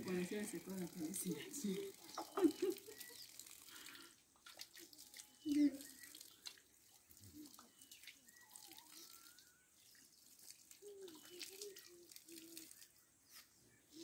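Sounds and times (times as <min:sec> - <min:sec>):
small water splashes: 0:00.0 - 0:13.0
water trickling and dripping: 0:00.0 - 0:14.0.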